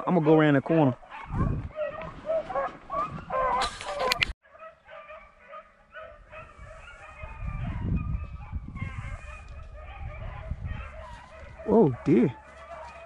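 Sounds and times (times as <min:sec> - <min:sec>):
dogs baying and yelping: 0:00.0 - 0:13.0.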